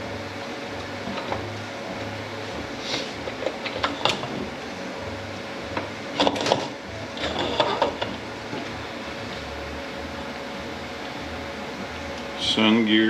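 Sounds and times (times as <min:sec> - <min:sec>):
low steady shop hum: 0:00.0 - 0:13.0.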